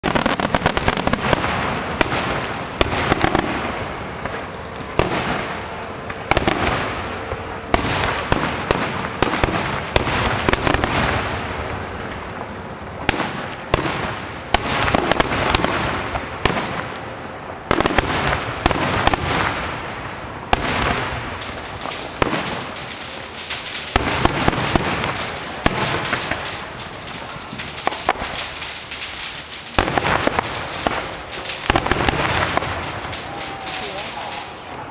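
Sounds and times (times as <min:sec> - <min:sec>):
firework bangs: 0:00.0 - 0:34.9
firework crackling: 0:00.0 - 0:34.9.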